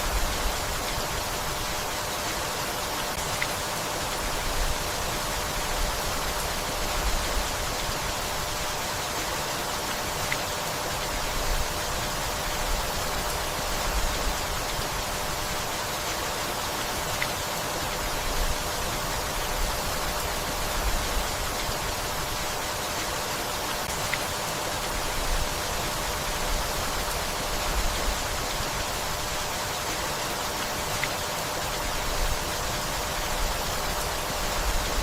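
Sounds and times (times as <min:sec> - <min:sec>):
rain falling on forest: 0:00.0 - 0:35.0.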